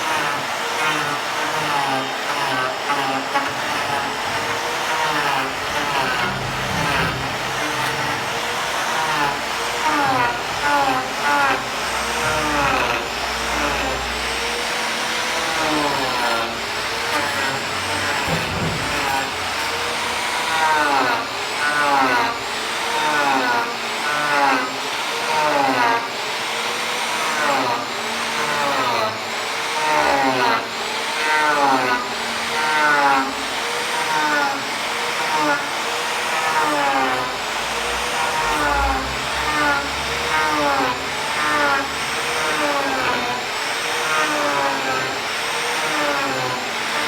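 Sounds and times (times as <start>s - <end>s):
power tool motor whining: 0.0s - 47.0s.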